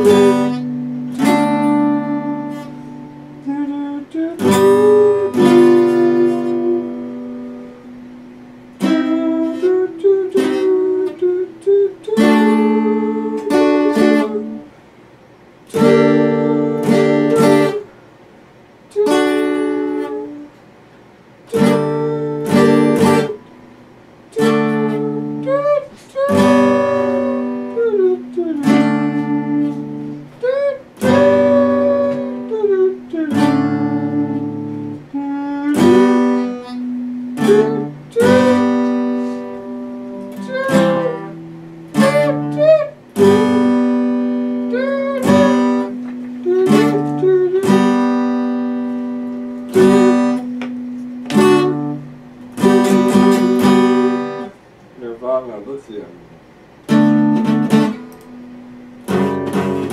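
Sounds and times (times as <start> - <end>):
acoustic guitar chords: 0.0 - 59.9.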